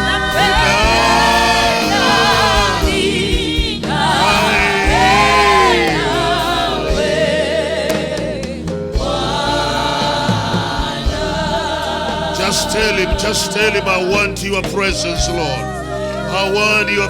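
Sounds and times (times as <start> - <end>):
gospel singing with vibrato: 0.0 - 17.0
musical accompaniment: 0.0 - 17.0.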